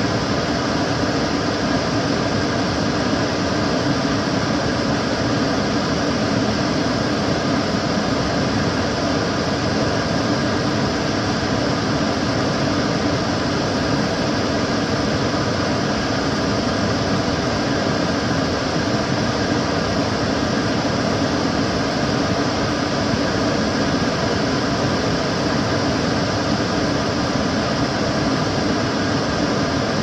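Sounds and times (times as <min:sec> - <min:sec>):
extractor fan running: 0:00.0 - 0:30.0.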